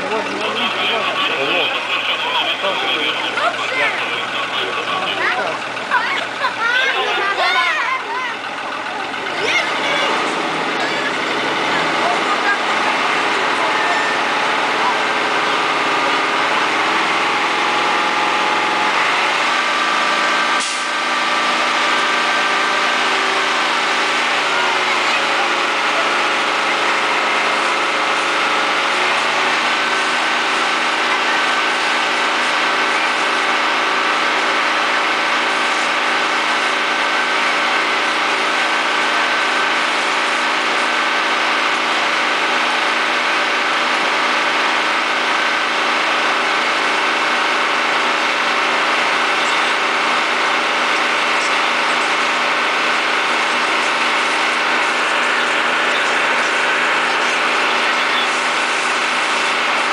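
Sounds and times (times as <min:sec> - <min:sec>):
fire pump engine running: 0:00.0 - 0:59.9.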